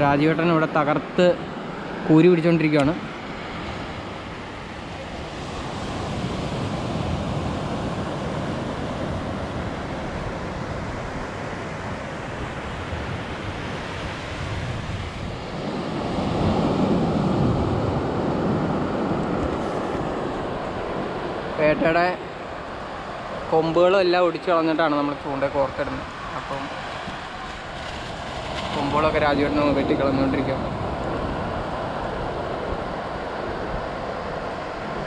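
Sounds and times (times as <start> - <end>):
waves washing onto beach: 0.0 - 35.0
wind on microphone: 3.4 - 23.5, 25.6 - 35.0.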